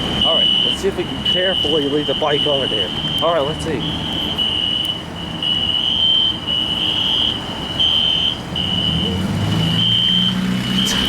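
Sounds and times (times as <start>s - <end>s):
vehicle engine rumble: 0.0s - 11.0s
fire alarm high-pitched tone: 0.2s - 11.0s.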